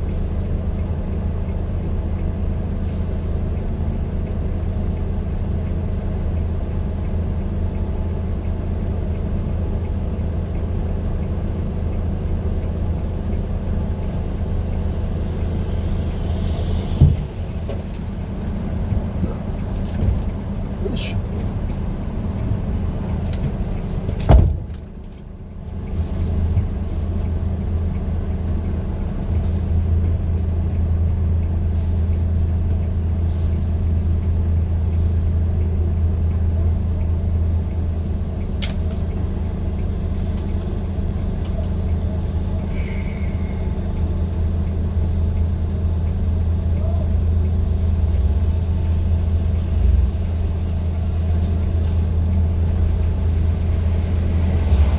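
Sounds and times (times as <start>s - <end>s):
vehicle engine and road noise: 0.0s - 54.9s.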